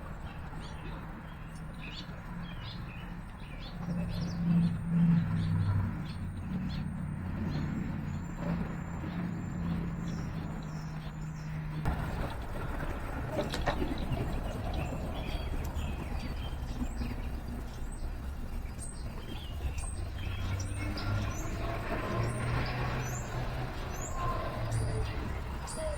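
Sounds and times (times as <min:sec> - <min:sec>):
songbirds chirping: 0:00.0 - 0:25.9
vehicle engine humming: 0:00.1 - 0:25.9.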